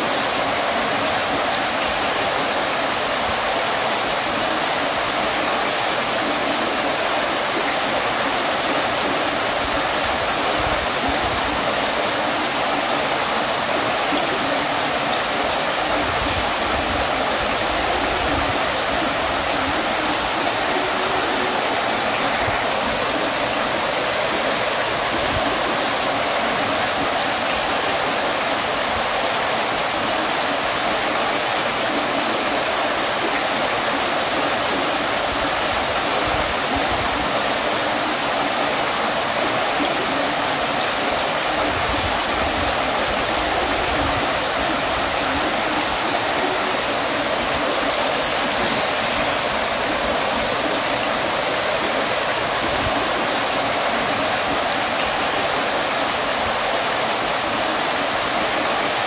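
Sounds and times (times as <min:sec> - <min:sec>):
water fountain splashing: 0:00.0 - 0:59.0.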